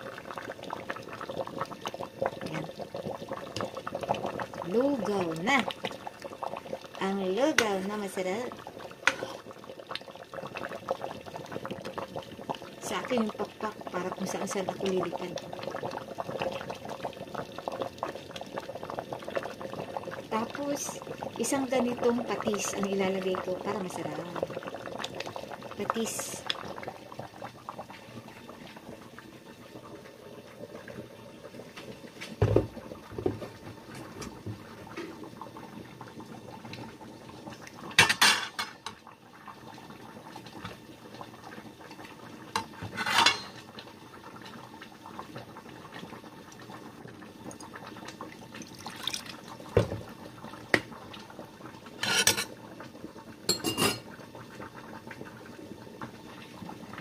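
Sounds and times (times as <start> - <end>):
porridge bubbling: 0.0 - 57.0.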